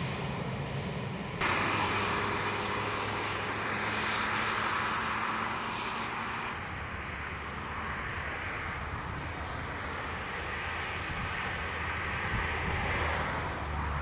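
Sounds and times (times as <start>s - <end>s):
low aircraft engine hum: 0.0s - 14.0s.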